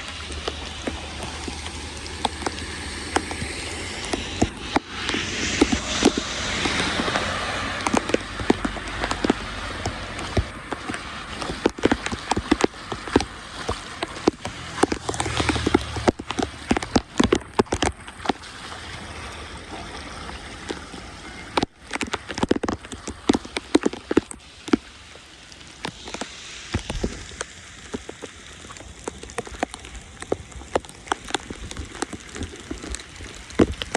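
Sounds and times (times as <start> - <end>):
rain on water and pavement: 0.0 - 33.9.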